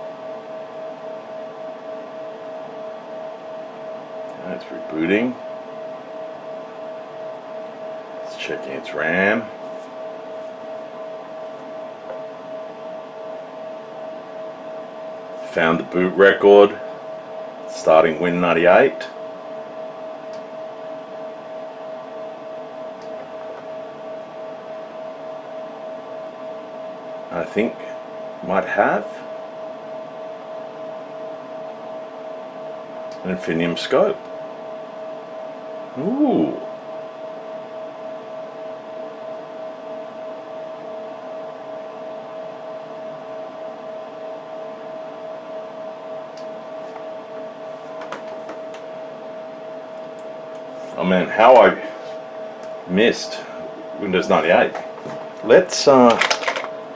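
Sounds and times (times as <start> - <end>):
cooling fans whining: 0.0 - 56.9.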